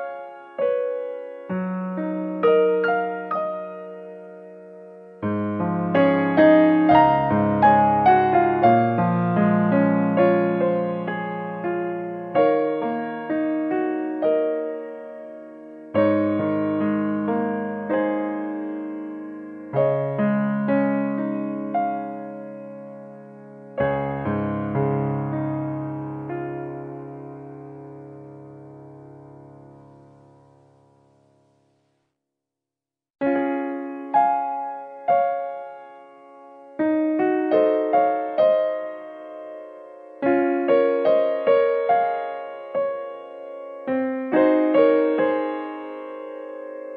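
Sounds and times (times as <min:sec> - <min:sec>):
piano music: 0:00.0 - 0:31.7, 0:33.2 - 0:46.9.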